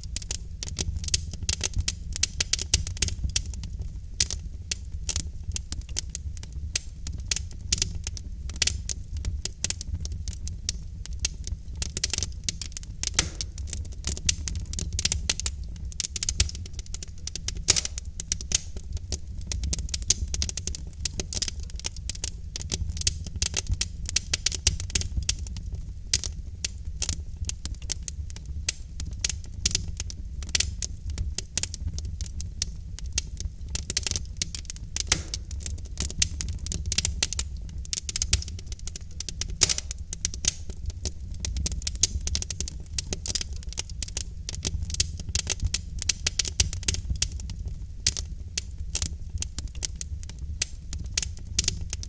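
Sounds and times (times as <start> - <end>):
low rumble of flame: 0.0 - 52.0
wood fire crackling and popping: 0.0 - 52.0.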